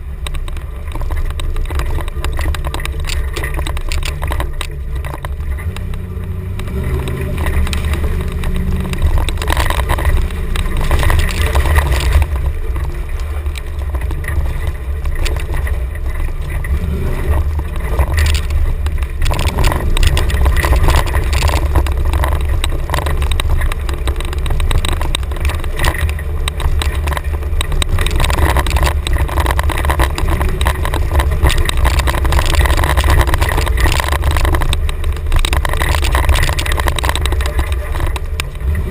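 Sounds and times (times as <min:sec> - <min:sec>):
engine low rumble: 0:00.0 - 0:38.9
vehicle knocks and rattles: 0:00.0 - 0:38.9.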